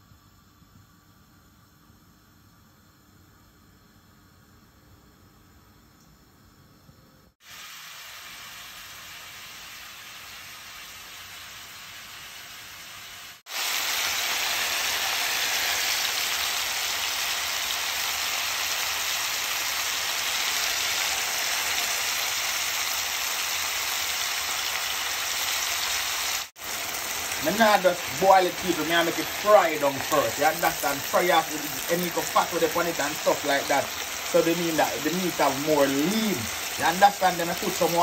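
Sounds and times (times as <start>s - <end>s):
meat sizzling in hot fat: 7.4s - 38.0s.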